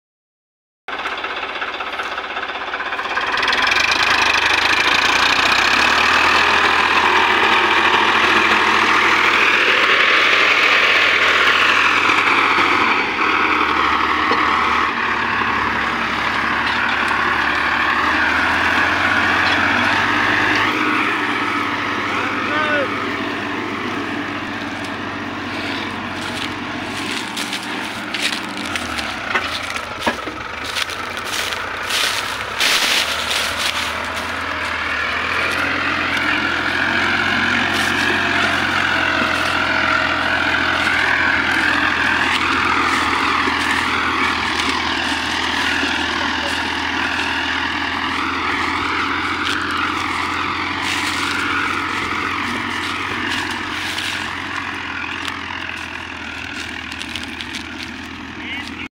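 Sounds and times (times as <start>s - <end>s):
tractor diesel engine under load: 0.9s - 58.9s.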